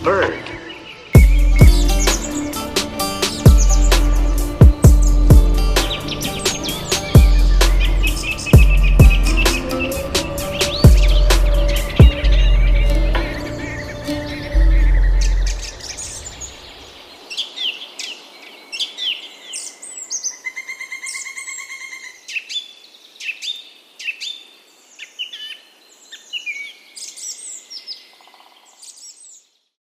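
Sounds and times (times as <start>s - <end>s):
songbirds chirping and singing: 0.0s - 29.7s.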